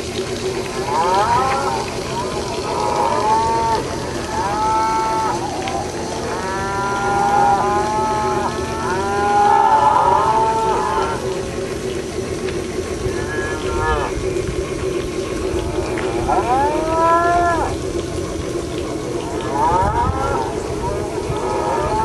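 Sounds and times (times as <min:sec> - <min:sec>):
train running hum: 0:00.0 - 0:22.0.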